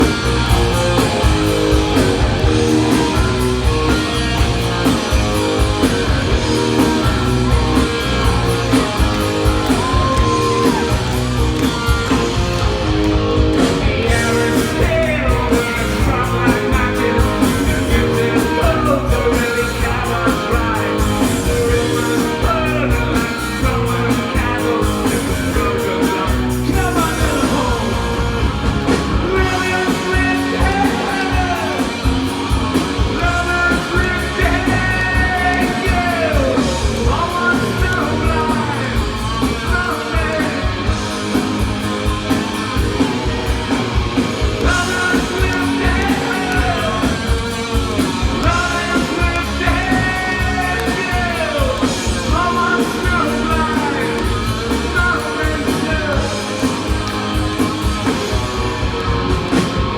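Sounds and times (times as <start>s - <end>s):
rock band playing live: 0.0s - 59.9s
lead vocal: 4.9s - 12.6s, 13.7s - 57.0s.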